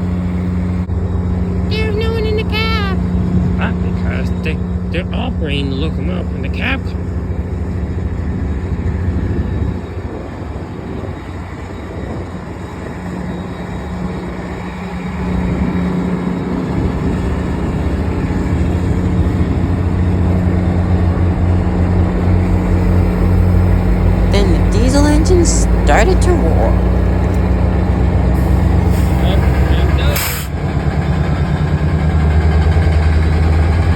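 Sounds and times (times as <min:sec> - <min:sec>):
diesel locomotive engine droning: 0:00.0 - 0:33.9.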